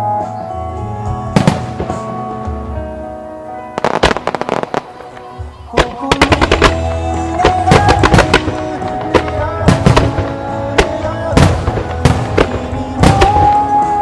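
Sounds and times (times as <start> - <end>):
music over loudspeakers: 0.0 - 14.0
fireworks bursting: 1.3 - 3.0, 3.6 - 14.0.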